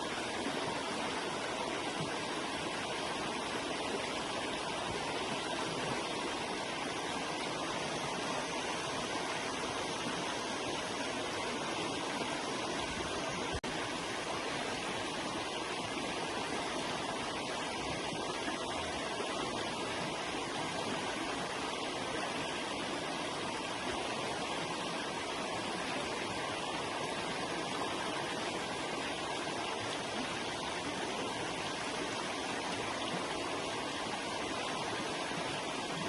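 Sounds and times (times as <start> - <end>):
river flowing: 0.0 - 36.0.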